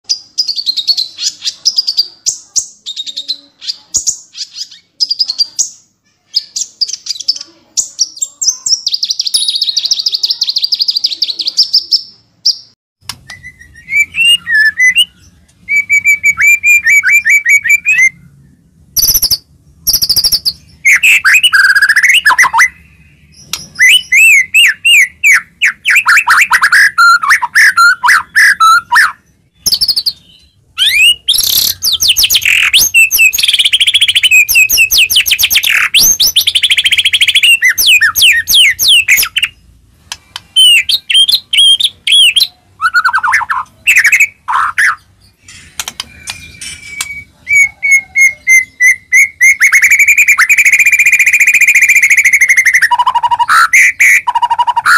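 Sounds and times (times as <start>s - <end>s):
bird chattering and trilling: 0.0s - 54.9s
bird whistled phrases: 0.1s - 18.3s, 19.0s - 39.6s, 40.3s - 45.1s, 45.9s - 54.9s.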